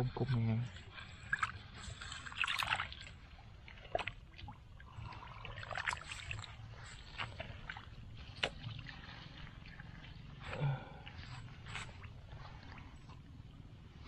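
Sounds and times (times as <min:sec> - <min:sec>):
low steady rumble: 0:00.0 - 0:14.0
water splashing and trickling: 0:00.0 - 0:14.0.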